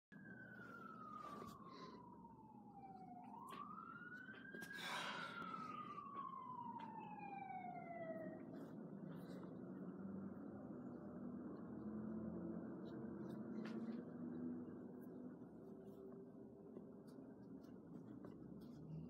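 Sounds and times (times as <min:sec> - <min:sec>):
faint siren wailing: 0:00.1 - 0:19.0.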